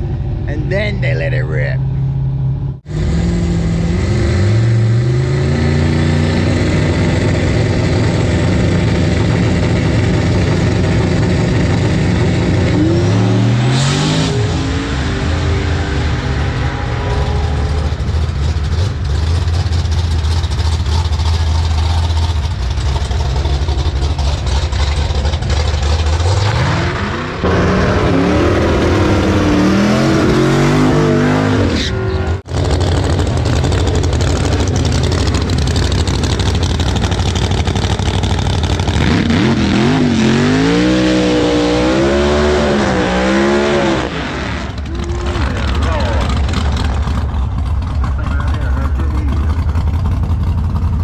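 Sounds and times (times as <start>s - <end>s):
truck engine rumbling and revving: 0.0s - 51.0s.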